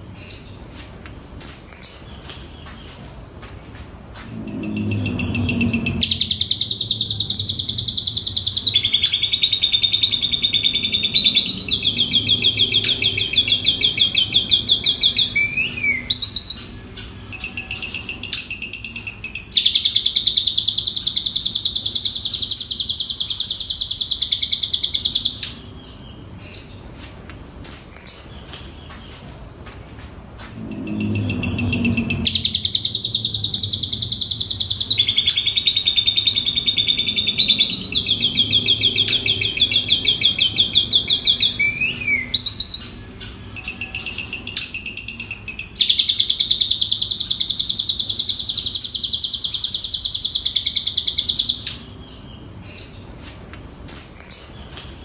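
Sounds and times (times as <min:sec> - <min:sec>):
starling singing trills: 0:04.2 - 0:26.8, 0:30.4 - 0:53.1.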